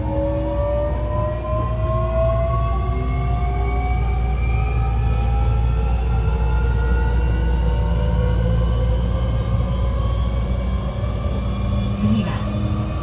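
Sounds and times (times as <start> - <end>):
low train running rumble: 0.0 - 13.0.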